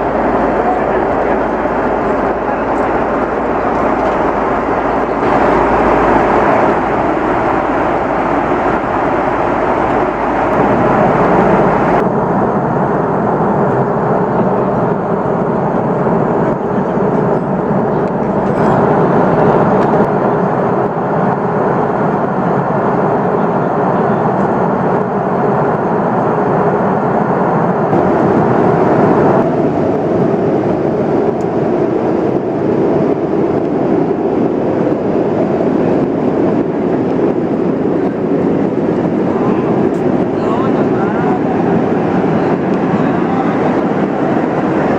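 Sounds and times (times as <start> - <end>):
jet engine cabin noise: 0.0 - 44.9.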